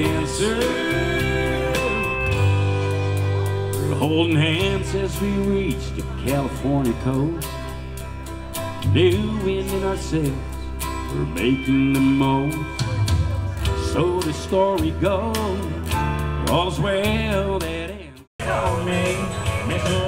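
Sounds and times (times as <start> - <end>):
man singing into a microphone: 0.0 - 3.1, 3.7 - 7.6, 8.8 - 20.0
amplified backing music: 0.0 - 20.0.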